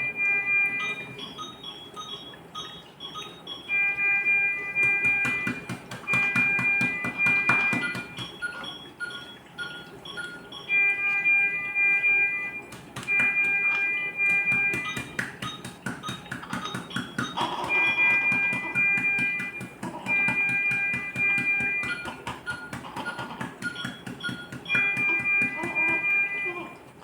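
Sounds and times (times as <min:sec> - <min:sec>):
electronic background music: 0:00.0 - 0:26.5.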